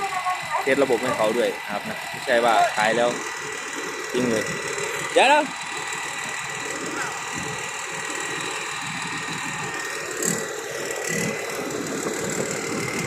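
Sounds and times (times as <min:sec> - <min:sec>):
combine harvester engine running: 0:00.0 - 0:13.0
high whine: 0:00.0 - 0:13.0.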